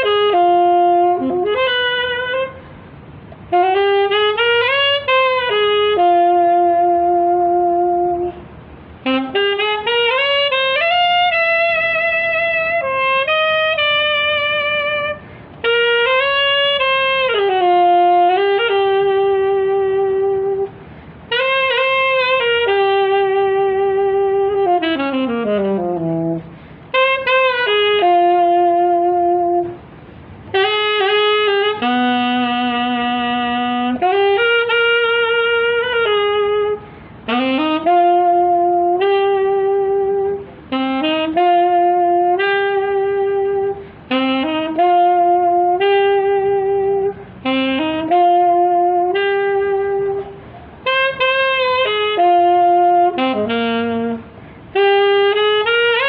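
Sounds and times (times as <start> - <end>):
saxophone slow melody: 0.0 - 56.0.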